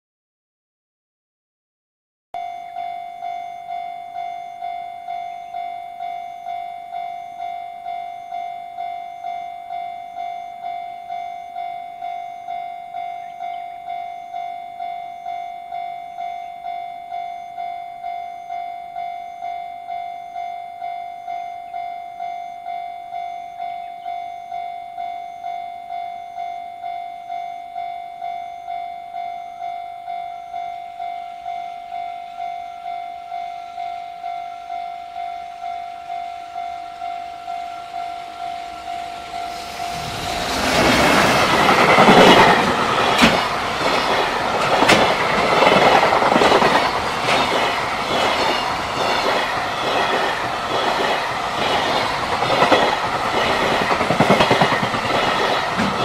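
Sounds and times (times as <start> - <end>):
faint approaching train: 2.4 - 56.0
level crossing alarm bell: 2.4 - 56.0.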